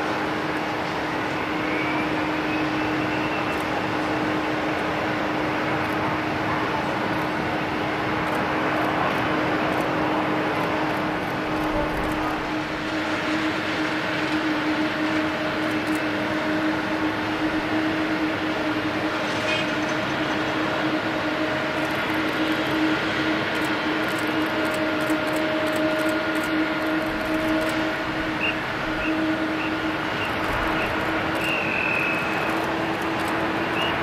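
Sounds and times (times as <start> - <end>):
distant jet engines droning: 0.0 - 34.0.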